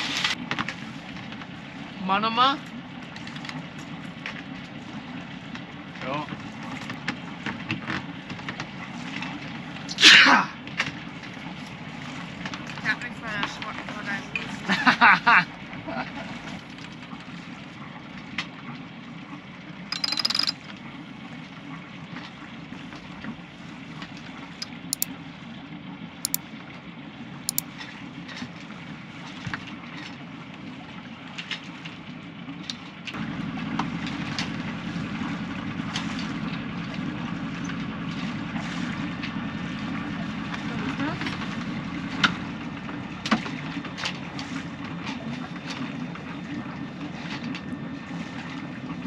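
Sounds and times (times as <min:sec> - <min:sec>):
boat engine running: 0:00.0 - 0:09.9, 0:10.6 - 0:26.4, 0:32.0 - 0:49.0.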